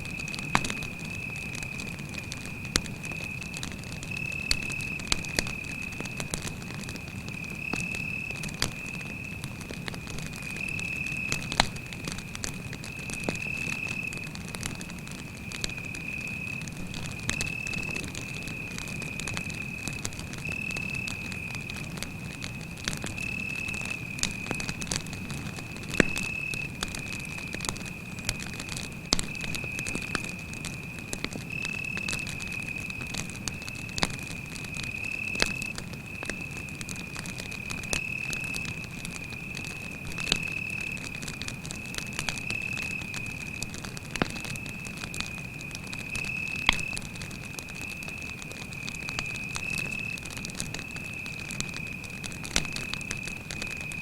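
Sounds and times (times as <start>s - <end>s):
cricket trill: 0.0s - 9.4s, 10.1s - 11.6s, 12.2s - 21.8s, 22.4s - 54.0s
campfire crackling: 0.0s - 54.0s.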